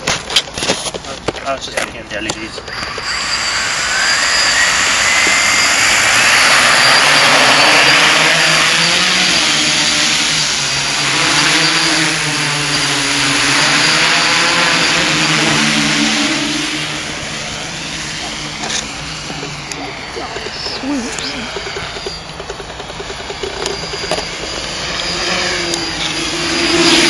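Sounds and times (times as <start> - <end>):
drone motors whirring: 2.5 - 27.0.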